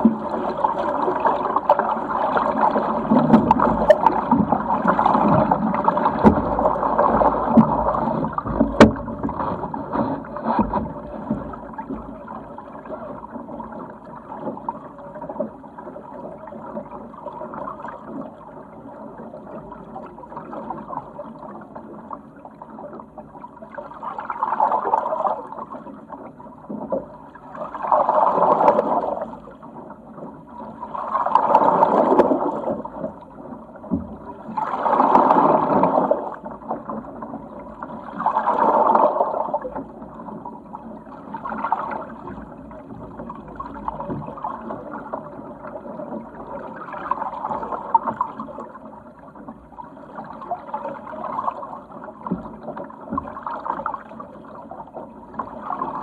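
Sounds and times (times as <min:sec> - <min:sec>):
water rushing along a hull: 0:00.0 - 0:56.0.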